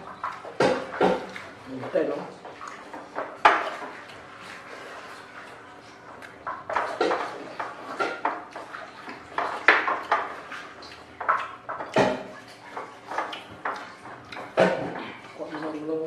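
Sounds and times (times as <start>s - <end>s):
eating sounds: 0.0s - 16.0s.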